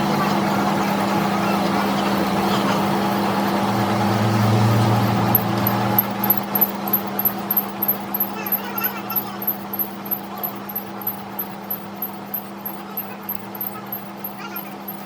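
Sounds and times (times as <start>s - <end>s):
deep drone: 0.0s - 15.0s
engine humming steadily: 0.0s - 15.0s
rapid high ticking: 0.0s - 15.0s.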